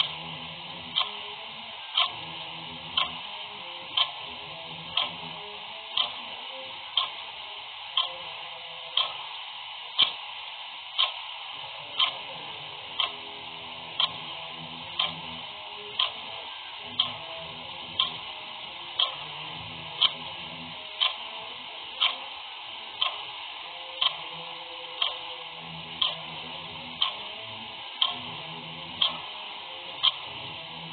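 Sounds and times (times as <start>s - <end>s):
clock ticking: 0.0s - 6.3s, 6.9s - 7.2s, 7.9s - 8.3s, 9.0s - 9.4s, 10.0s - 10.3s, 11.0s - 22.4s, 23.0s - 30.9s.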